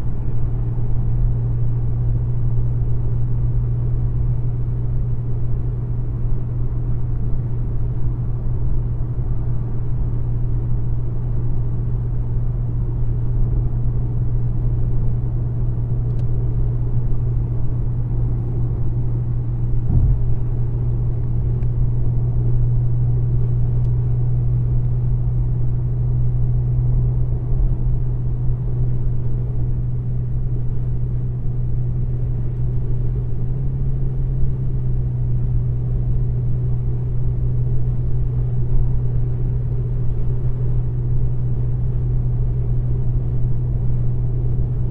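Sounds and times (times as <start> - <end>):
car engine running steadily: 0.0 - 44.9.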